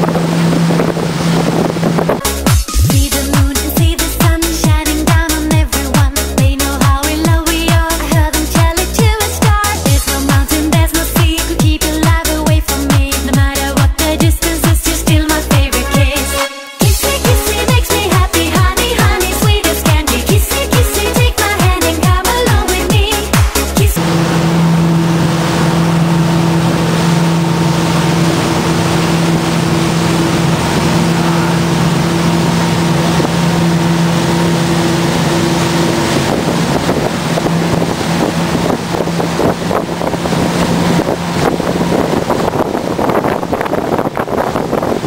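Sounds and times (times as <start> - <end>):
churning water: 0.0 - 45.0
motorboat engine running: 0.0 - 45.0
wind on microphone: 0.0 - 45.0.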